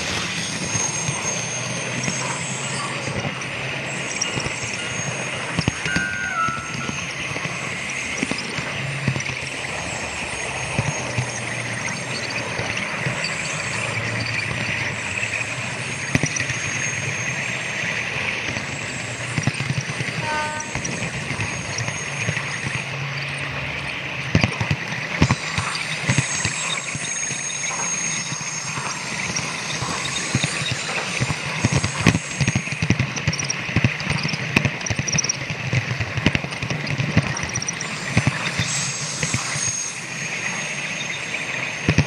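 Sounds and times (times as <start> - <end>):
wheels clicking over rail joints: 0.0 - 42.0.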